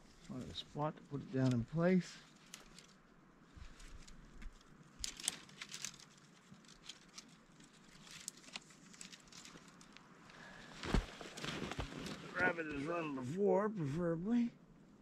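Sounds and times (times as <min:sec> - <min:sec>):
hands rustling among twigs: 0:00.0 - 0:12.5.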